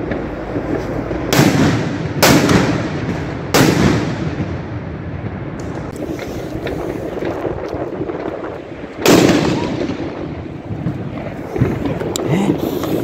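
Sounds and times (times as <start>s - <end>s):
distant fireworks: 0.0s - 13.0s
loud firework bangs echoing: 0.0s - 13.0s
sharp firework cracks: 0.0s - 13.0s.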